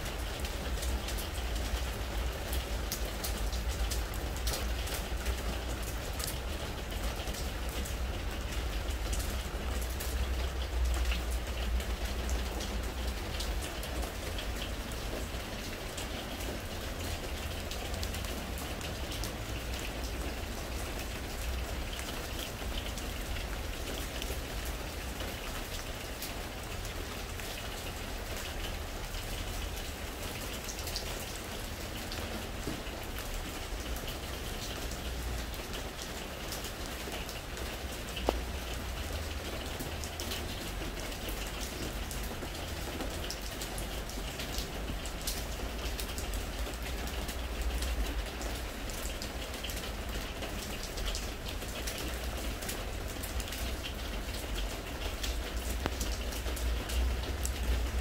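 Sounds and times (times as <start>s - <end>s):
rain on wooden deck: 0.0s - 58.0s.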